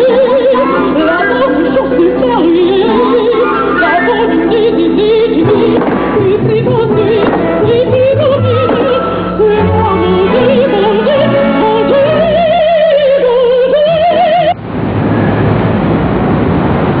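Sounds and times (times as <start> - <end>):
musical accompaniment: 0.0 - 14.6
woman singing opera: 0.0 - 14.6.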